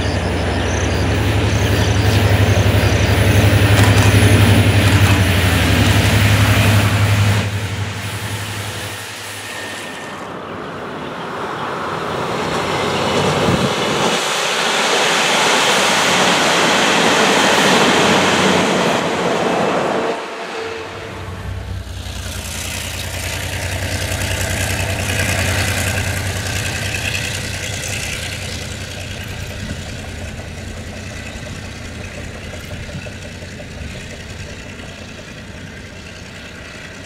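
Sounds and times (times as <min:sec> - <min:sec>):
diesel locomotive droning: 0:00.0 - 0:37.0
train wheels rumbling on track: 0:00.0 - 0:37.0.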